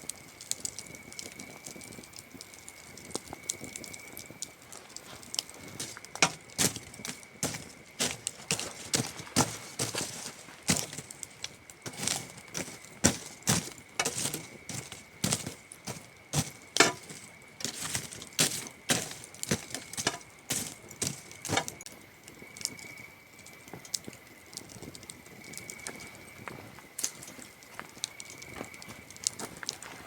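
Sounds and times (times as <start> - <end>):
campfire crackling and popping: 0.0 - 30.0
crickets trilling: 0.0 - 30.0.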